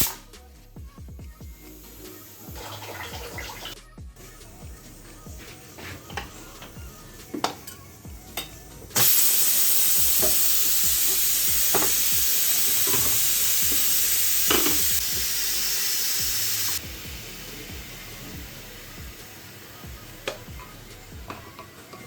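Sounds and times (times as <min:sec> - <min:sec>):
pressure cooker hissing steam: 0:01.5 - 0:03.7, 0:04.5 - 0:22.0.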